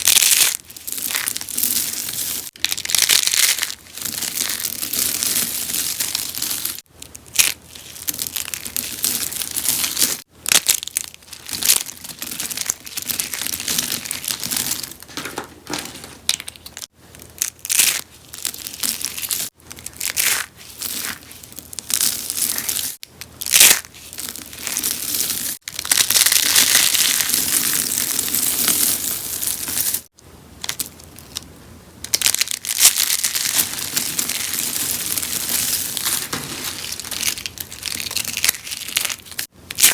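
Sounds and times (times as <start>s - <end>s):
soap being crushed and crunched: 0.0s - 30.1s, 32.1s - 39.9s.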